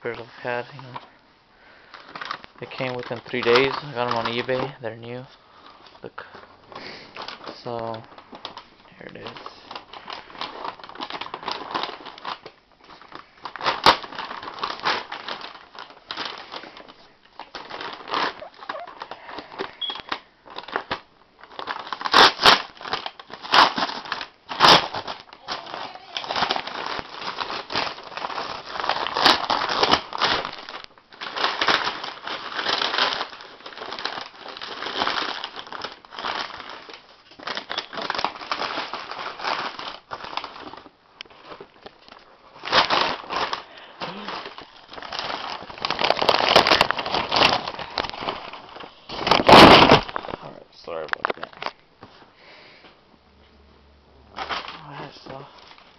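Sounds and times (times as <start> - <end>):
sharp crackles of wrapping: 0.0 - 51.8, 54.3 - 55.9
packaging crinkling and rustling: 0.0 - 52.3, 54.3 - 55.9.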